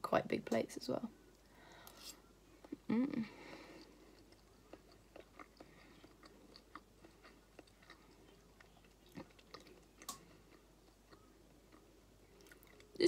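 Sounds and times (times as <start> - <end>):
close-up chewing: 1.4 - 13.0.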